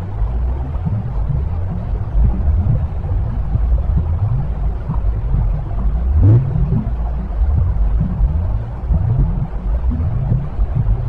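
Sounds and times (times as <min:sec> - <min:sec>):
low rumbling white noise: 0:00.0 - 0:11.0
wavering low tones: 0:00.0 - 0:11.0.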